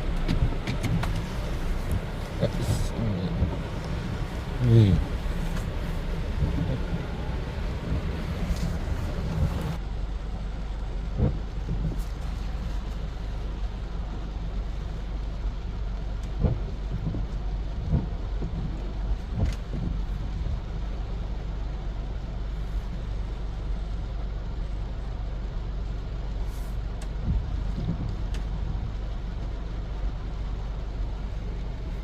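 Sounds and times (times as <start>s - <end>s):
low continuous rumble: 0.0s - 32.0s
rain hiss: 0.0s - 32.0s.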